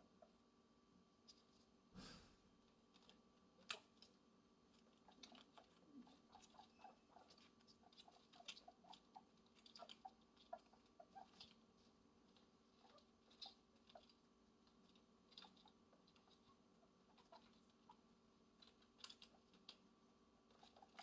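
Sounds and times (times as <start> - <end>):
guinea pig chewing: 2.5 - 21.0.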